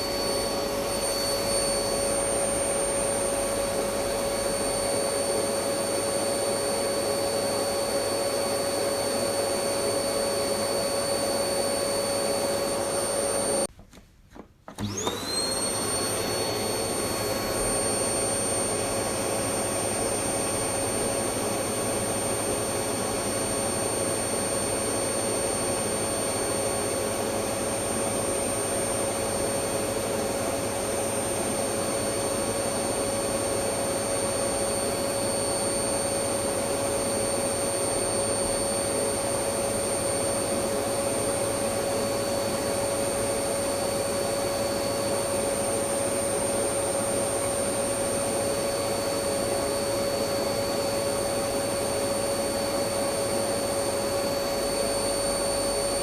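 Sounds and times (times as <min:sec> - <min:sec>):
vacuum cleaner running: 0:00.0 - 0:13.7, 0:14.4 - 0:56.0.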